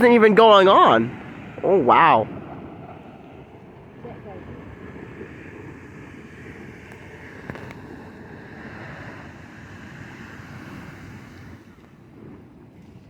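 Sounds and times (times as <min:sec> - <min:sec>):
geyser spraying water and steam: 0:00.0 - 0:13.0
wind buffeting microphone: 0:00.0 - 0:13.0.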